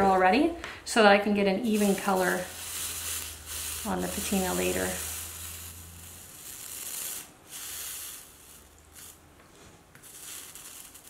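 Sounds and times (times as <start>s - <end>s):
flux sizzling softly: 1.6s - 11.0s.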